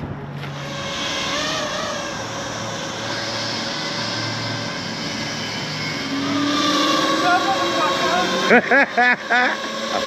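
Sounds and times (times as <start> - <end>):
drone propeller buzz: 0.0 - 10.0
high wavering whine: 0.0 - 10.0.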